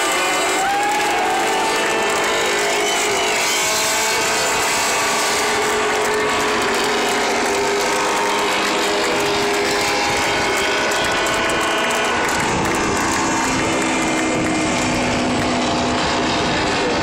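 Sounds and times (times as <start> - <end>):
horn-like tones: 0.0 - 15.2
crowd rattling and clattering: 0.0 - 17.0.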